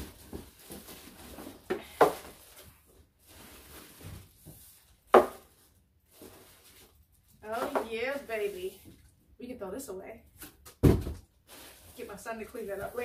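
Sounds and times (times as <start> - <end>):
plastic bags rustling: 0.0 - 9.2, 10.3 - 13.0.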